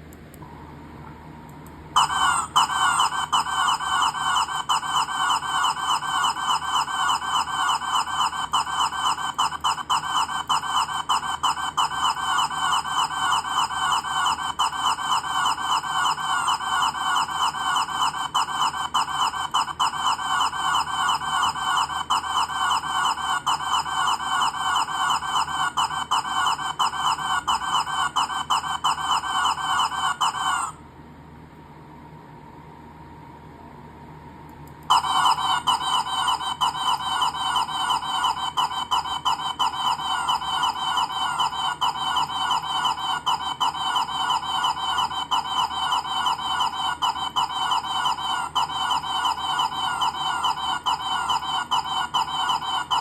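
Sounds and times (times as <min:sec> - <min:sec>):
clucking chirps: 0:02.0 - 0:30.8, 0:34.9 - 0:53.0.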